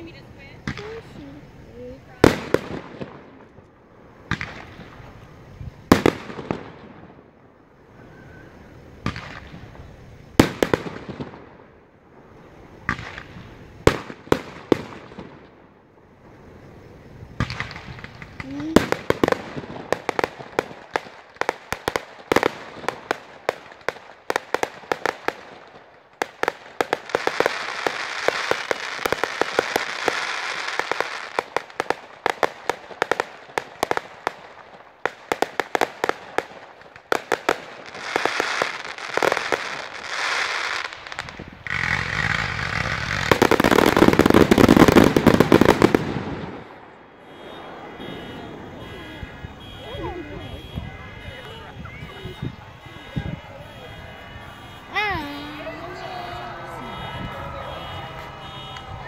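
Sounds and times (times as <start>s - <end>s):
fireworks hissing: 0.0s - 59.0s
fireworks popping and crackling: 0.0s - 59.0s.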